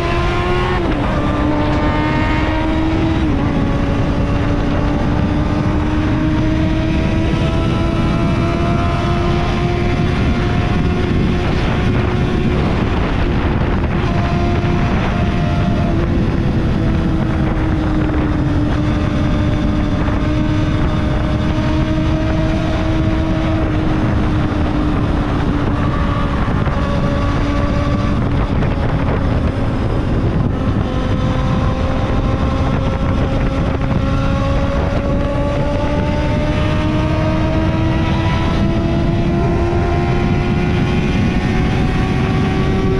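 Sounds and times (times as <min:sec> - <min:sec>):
motorcycle engine at high revs: 0:00.0 - 0:42.9
wind on microphone: 0:00.0 - 0:42.9.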